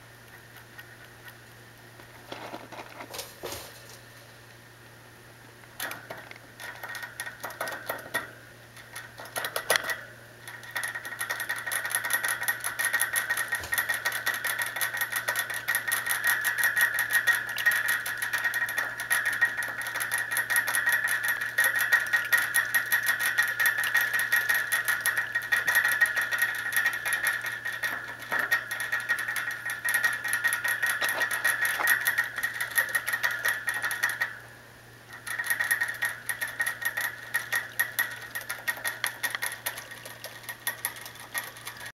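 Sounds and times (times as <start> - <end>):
rabbit licking water bottle spout: 5.8 - 34.4, 35.1 - 41.9.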